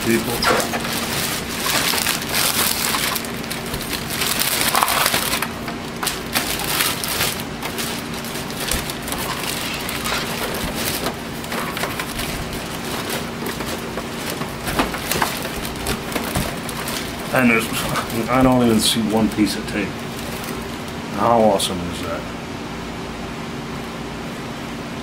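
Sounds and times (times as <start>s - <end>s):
plastic bag crinkling: 0.0s - 21.2s.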